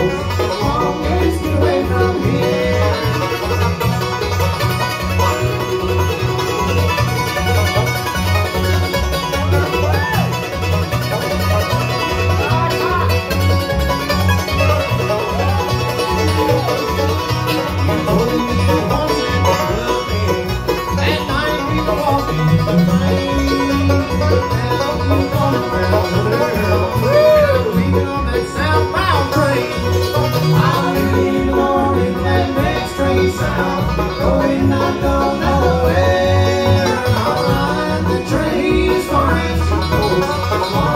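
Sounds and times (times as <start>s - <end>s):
banjo: 0.0s - 40.9s
guitar: 0.0s - 40.9s
mandolin: 0.0s - 40.9s
upright bass: 0.0s - 40.9s.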